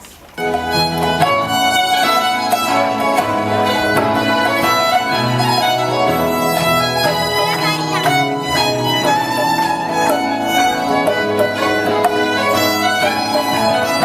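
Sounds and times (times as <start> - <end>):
instrumental music with violin: 0.4 - 14.0.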